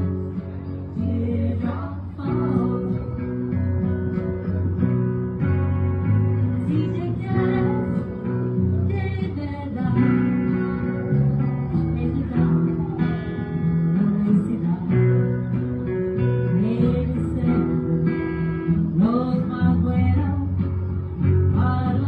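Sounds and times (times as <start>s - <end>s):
person singing: 0.0s - 5.4s, 6.0s - 22.0s
strummed acoustic guitar: 0.0s - 22.0s.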